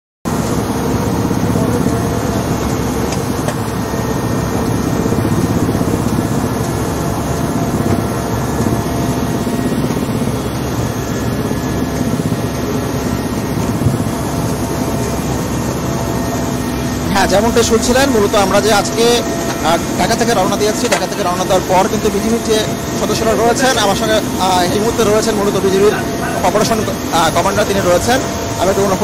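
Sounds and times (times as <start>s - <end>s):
helicopter engine and rotor: 0.3s - 29.0s.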